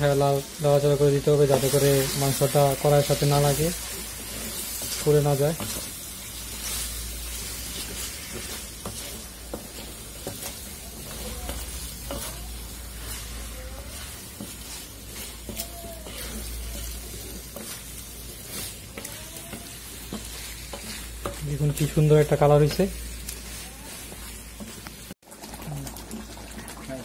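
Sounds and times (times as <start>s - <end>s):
curry sizzling in metal pan: 0.0s - 27.0s
spatula scraping pan: 1.5s - 25.2s.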